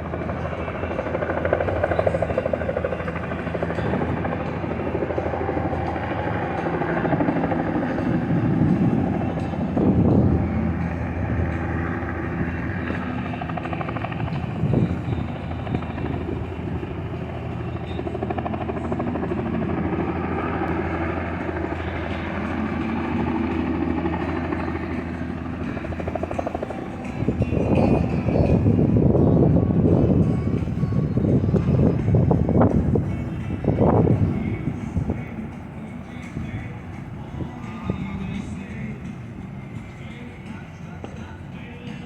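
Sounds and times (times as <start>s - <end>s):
helicopter rotor chopping: 0.0s - 42.0s.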